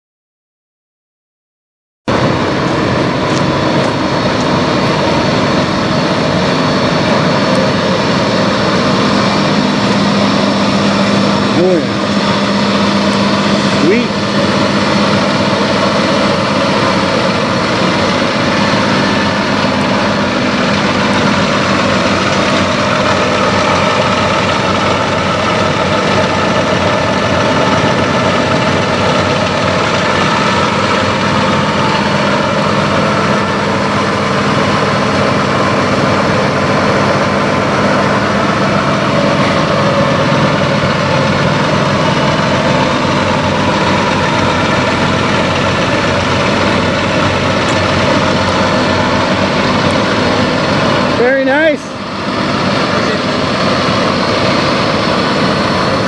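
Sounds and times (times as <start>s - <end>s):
diesel truck engine idling: 2.1s - 56.0s.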